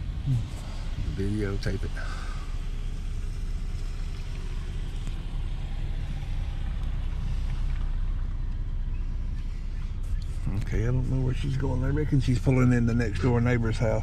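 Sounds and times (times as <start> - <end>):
car cabin engine rumble: 0.0 - 14.0.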